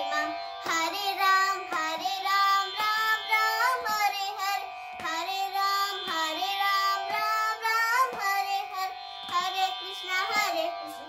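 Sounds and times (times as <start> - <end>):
girl singing: 0.0 - 11.0
steady drone: 0.0 - 11.0.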